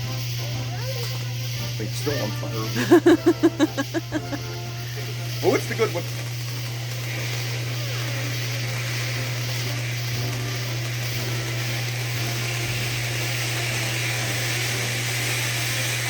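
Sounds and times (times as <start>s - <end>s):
firework fountain hissing: 0.0s - 16.0s.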